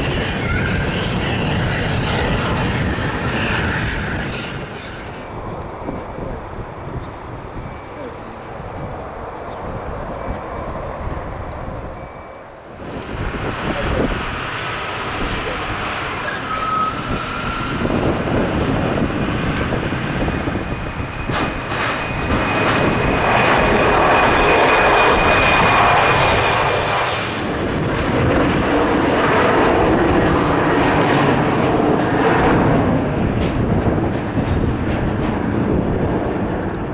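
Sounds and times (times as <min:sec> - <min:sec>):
jet taking off: 0:00.0 - 0:36.9
wind buffeting microphone: 0:00.0 - 0:36.9.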